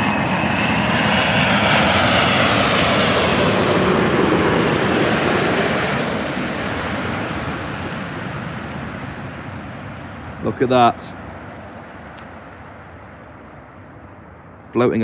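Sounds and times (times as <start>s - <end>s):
jet airliner passing by: 0.0s - 15.0s.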